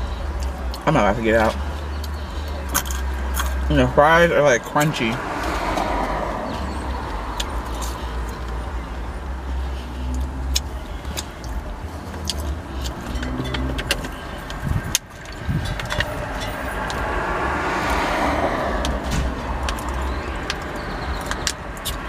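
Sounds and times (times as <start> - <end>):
road traffic rumble: 0.0 - 22.0
vehicle passing: 0.0 - 22.0.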